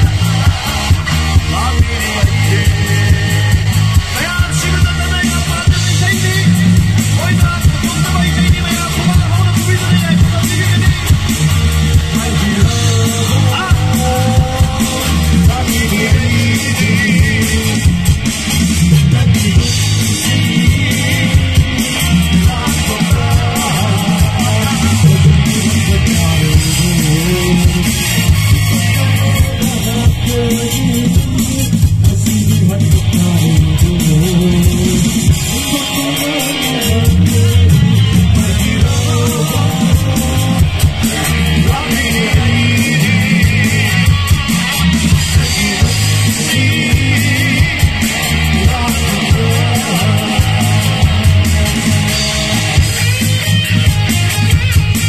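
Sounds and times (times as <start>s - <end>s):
electric guitar: 0.0s - 55.0s
live rock band playing: 0.0s - 55.0s
steady drum beat: 0.0s - 55.0s.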